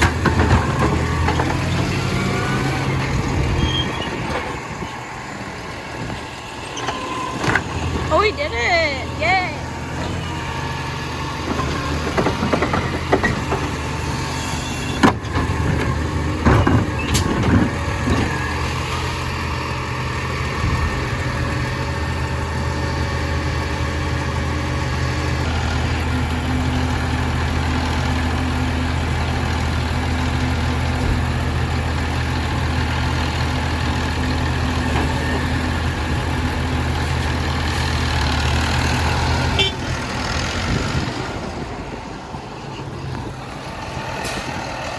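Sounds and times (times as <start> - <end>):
garbage truck engine idling: 0.0 - 44.9.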